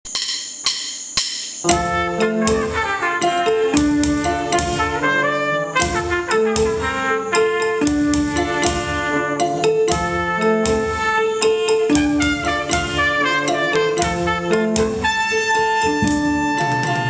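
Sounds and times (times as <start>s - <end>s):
trumpet melody: 1.6s - 17.0s.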